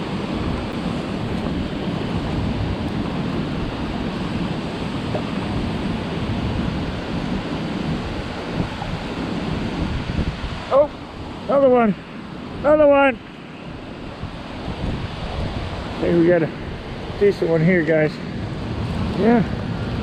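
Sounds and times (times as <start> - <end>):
river current rushing: 0.0 - 20.0
wind buffeting microphone: 0.0 - 20.0.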